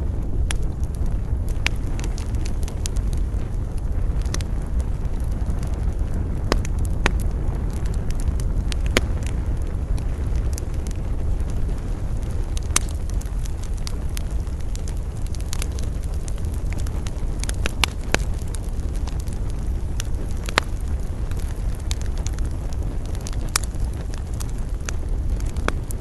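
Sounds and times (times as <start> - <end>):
campfire crackling: 0.0 - 26.0
low rumble of wind: 0.0 - 26.0.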